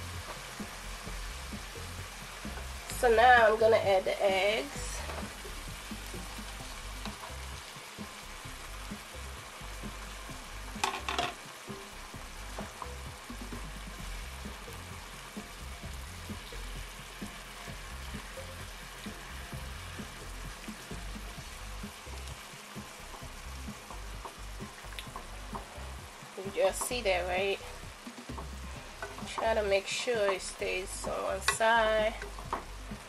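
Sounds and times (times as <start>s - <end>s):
vegetables and eggs sizzling: 0.0s - 33.0s.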